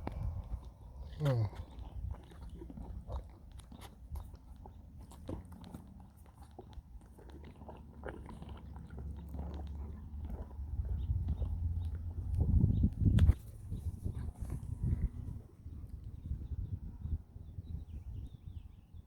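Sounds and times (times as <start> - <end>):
animal licking and chewing: 0.0 - 16.2.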